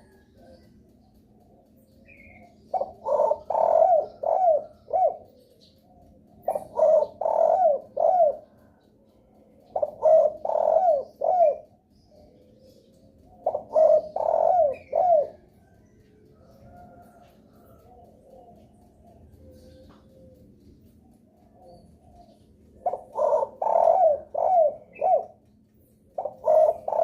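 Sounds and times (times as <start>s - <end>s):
dove cooing: 0.0s - 0.8s, 1.4s - 25.5s, 26.1s - 27.0s.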